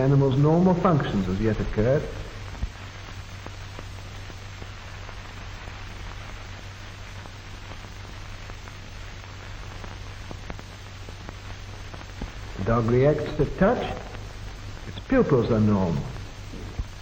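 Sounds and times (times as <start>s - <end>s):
faint crackles: 0.0s - 17.0s
film soundtrack hiss: 0.0s - 17.0s.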